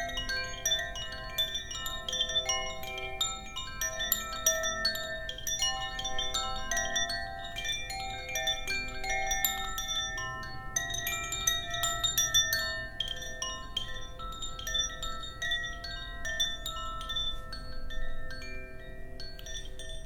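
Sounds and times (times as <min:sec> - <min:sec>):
metal wind chime ringing: 0:00.0 - 0:20.0.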